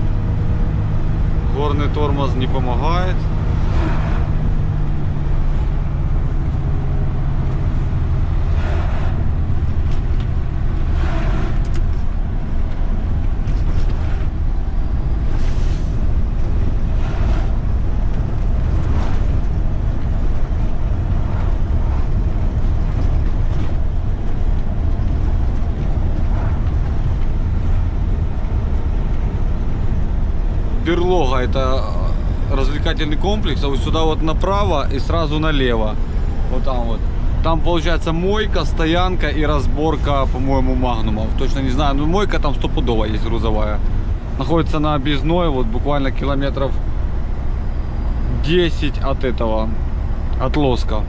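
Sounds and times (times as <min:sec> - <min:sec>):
rattles from road bumps: 0:00.0 - 0:51.0
truck engine and road noise: 0:00.0 - 0:51.0.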